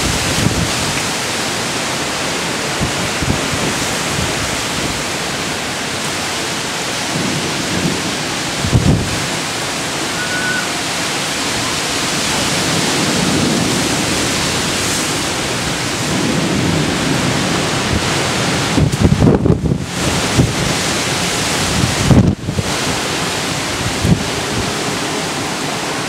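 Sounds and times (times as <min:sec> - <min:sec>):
gusty wind: 0:00.0 - 0:26.0
heavy rain: 0:00.0 - 0:26.0
wind buffeting microphone: 0:00.0 - 0:26.0.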